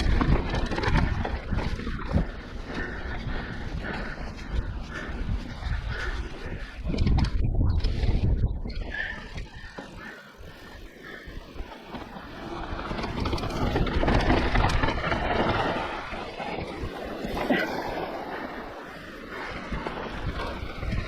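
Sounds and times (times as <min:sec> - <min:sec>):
bike rattling over rough ground: 0:00.0 - 0:21.0
bike tyres rolling on dirt: 0:00.0 - 0:21.0
wind buffeting microphone: 0:00.0 - 0:21.0.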